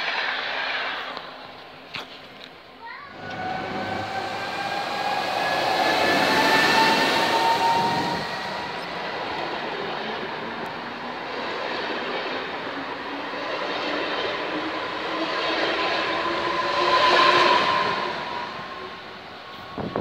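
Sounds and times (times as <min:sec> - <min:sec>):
passenger train rumbling past: 0:02.8 - 0:20.0
train whine rising in pitch: 0:03.1 - 0:20.0.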